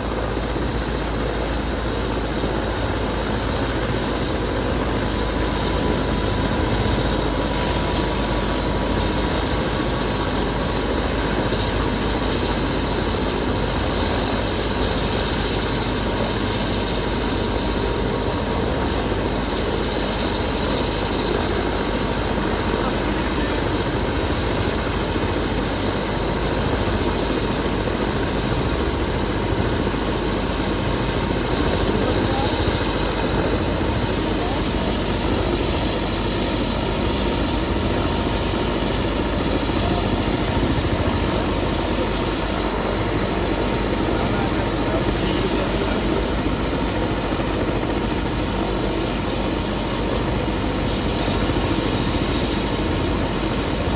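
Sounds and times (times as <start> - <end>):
faint steady whine: 0.0 - 53.9
helicopter rotor and turbine: 0.0 - 53.9.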